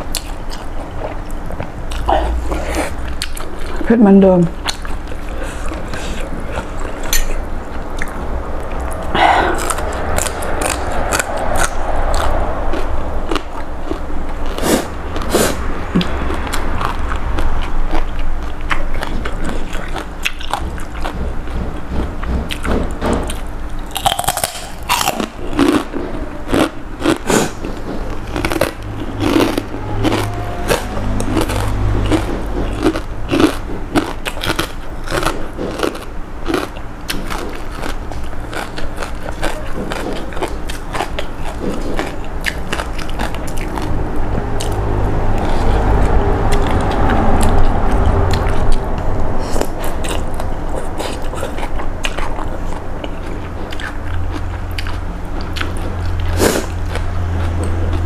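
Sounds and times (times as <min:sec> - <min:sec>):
chewing noodles: 0:00.0 - 0:03.9, 0:04.5 - 0:58.0.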